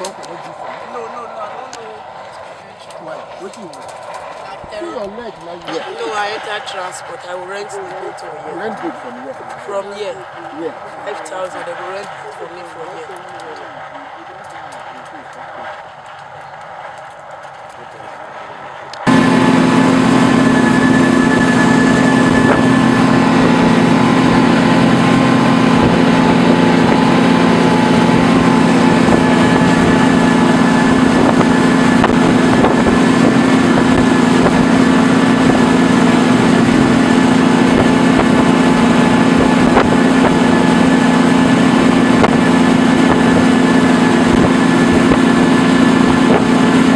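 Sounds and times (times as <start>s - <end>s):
motorboat engine droning: 0.0s - 46.9s.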